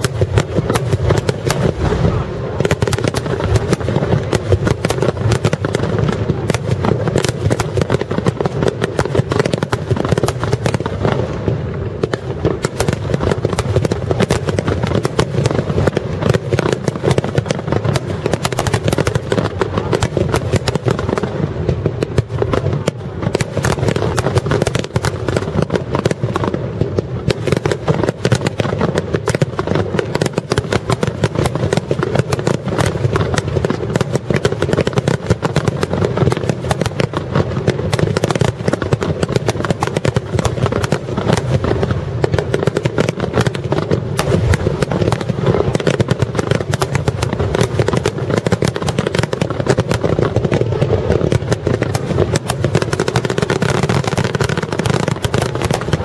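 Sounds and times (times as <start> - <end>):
fireworks cracking: 0.0 - 56.0.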